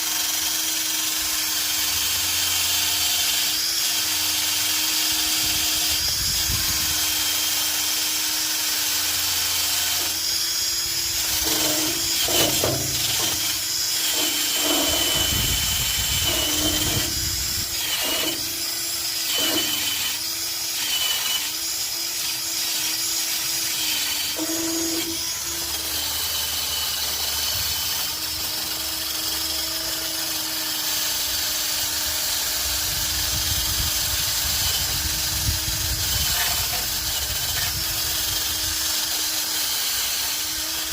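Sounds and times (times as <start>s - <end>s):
power tool motor whine: 0.0s - 40.9s
tool scraping metal: 1.8s - 32.6s, 34.0s - 40.9s.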